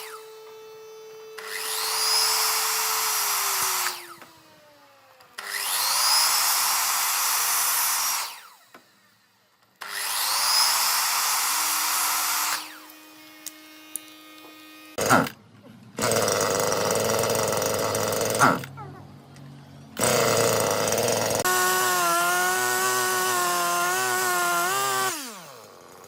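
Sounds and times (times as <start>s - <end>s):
power tool whining: 0.0s - 26.0s.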